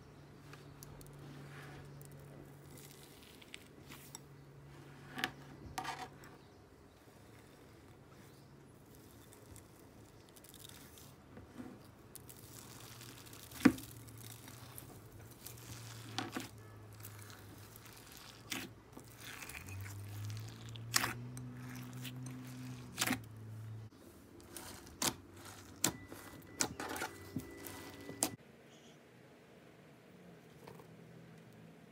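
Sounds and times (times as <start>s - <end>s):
soft crinkling: 0.4s - 28.4s.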